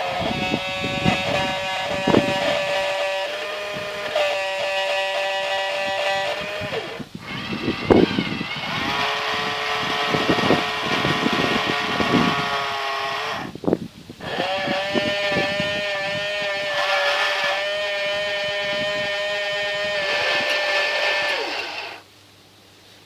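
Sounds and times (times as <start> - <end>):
gears clicking and rattling: 0.0 - 13.5, 14.2 - 22.0
electric motors whining: 0.0 - 22.1.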